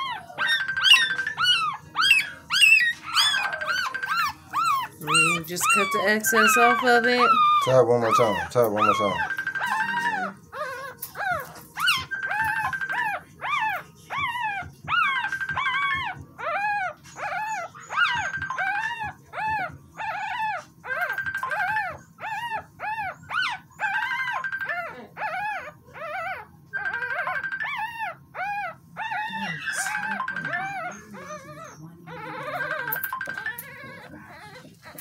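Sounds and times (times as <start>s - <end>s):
puppy crying high-pitched squeals: 0.0s - 35.0s.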